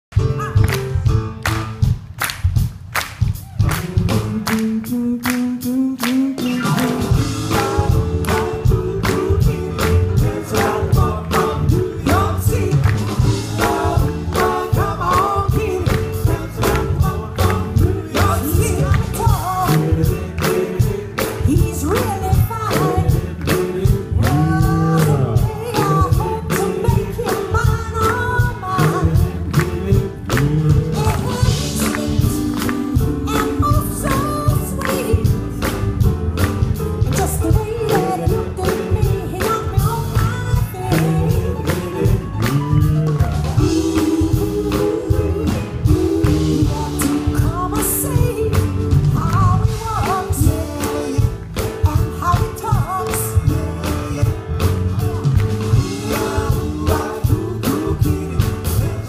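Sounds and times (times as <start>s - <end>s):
drum kit beat: 0.1s - 59.0s
electric bass guitar: 3.4s - 59.0s
vocal harmony group singing: 4.1s - 59.0s.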